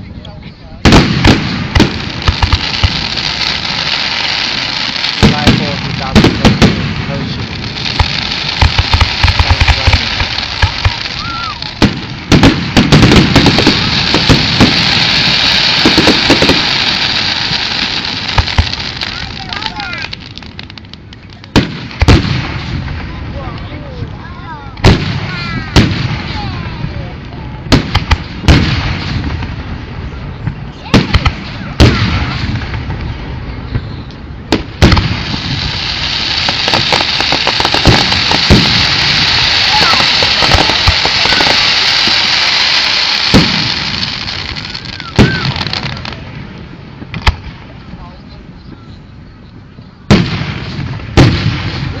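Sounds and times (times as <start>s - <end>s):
firework bangs and pops: 0.8s - 23.8s, 24.7s - 48.0s, 50.0s - 52.0s.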